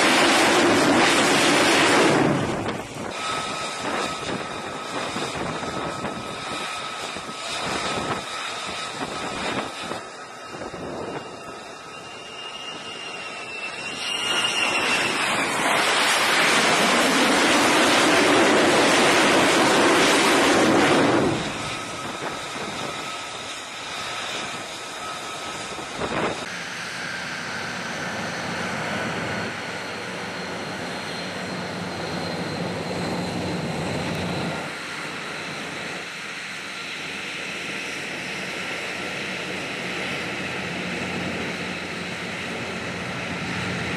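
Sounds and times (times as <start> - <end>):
jet engine spooling up: 0.0 - 43.9
jet taxiing: 0.0 - 43.9.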